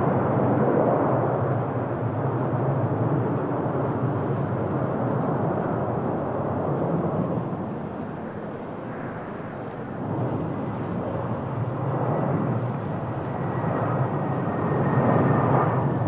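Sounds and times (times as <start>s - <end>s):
jet engine rumble: 0.0s - 16.0s.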